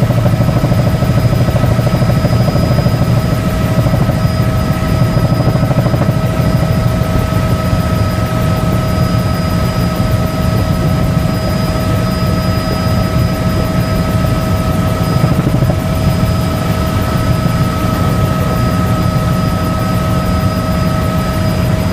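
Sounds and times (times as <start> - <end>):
helicopter rotor and engine drone: 0.0 - 21.9
high-pitched whine: 0.0 - 21.9.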